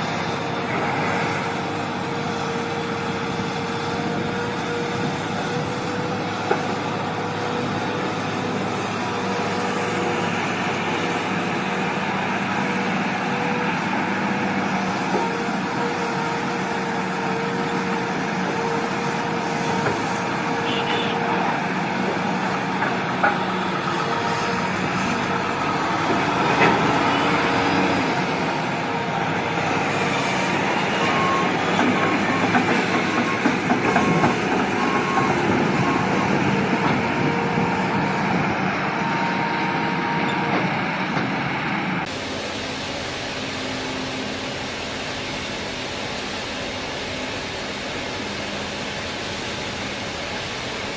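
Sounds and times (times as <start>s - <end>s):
large machinery running: 0.0s - 50.9s.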